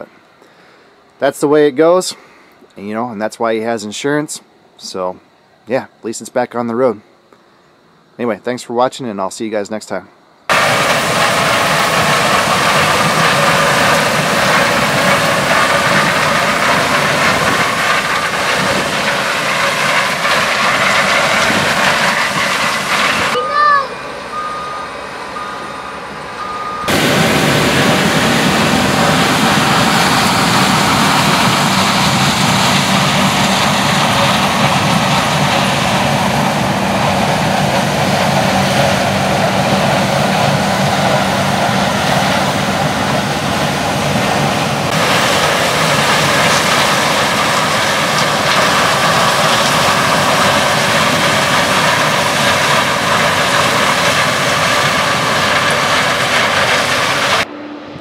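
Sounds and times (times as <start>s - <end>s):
diesel machinery drone: 10.5s - 58.0s.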